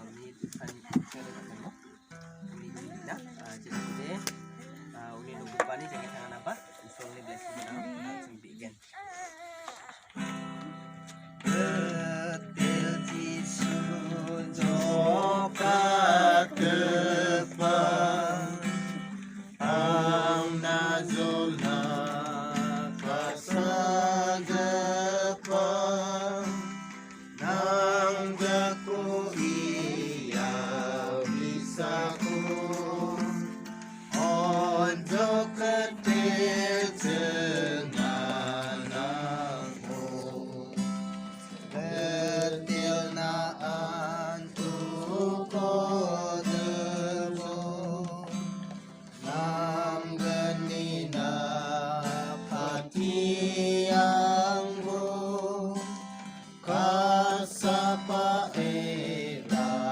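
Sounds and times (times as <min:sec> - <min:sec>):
guitar accompaniment: 0:00.0 - 0:08.5, 0:09.1 - 0:59.9
person singing: 0:09.0 - 0:59.9.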